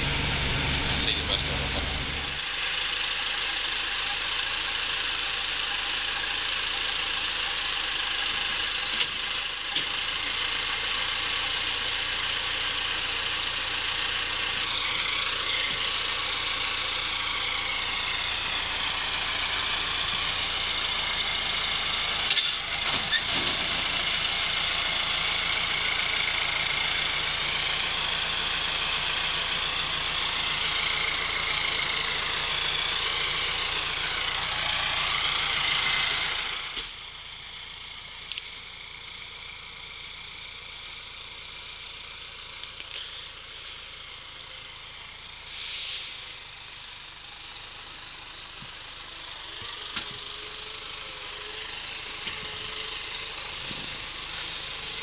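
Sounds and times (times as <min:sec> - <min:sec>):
tractor and harvester drone: 0:00.0 - 0:55.0.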